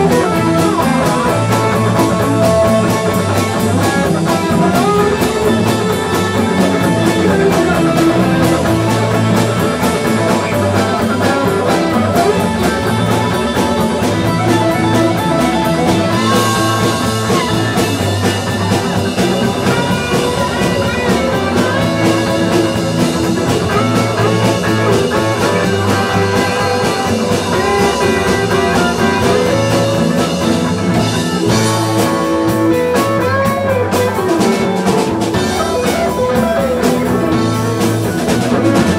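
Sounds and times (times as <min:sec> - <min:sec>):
electric guitar: 0:00.0 - 0:38.9
live rock band playing: 0:00.0 - 0:38.9.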